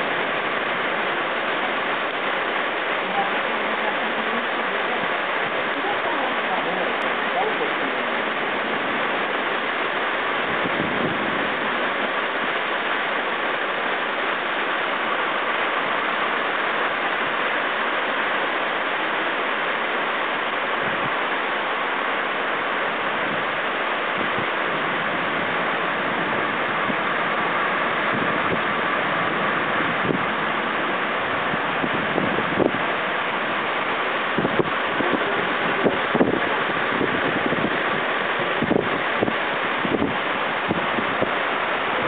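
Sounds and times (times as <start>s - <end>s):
floodwater rushing down street: 0.0s - 42.0s
heavy rain: 0.0s - 42.0s.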